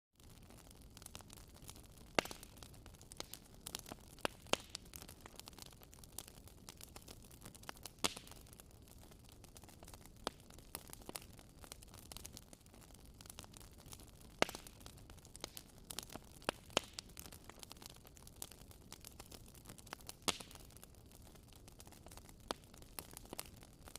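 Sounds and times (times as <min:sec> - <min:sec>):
wood fire crackling: 0:00.2 - 0:23.9.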